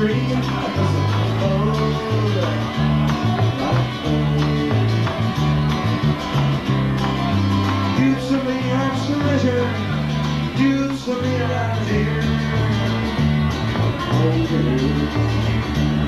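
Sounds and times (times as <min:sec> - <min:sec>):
bass guitar line: 0:00.0 - 0:16.0
strummed acoustic guitar: 0:00.0 - 0:16.0.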